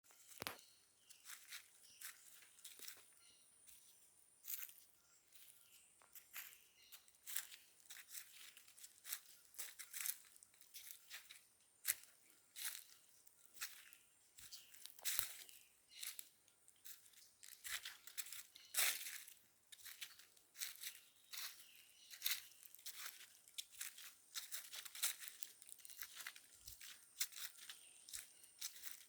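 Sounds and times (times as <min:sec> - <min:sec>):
footsteps crunching dry leaves: 0:00.1 - 0:29.0.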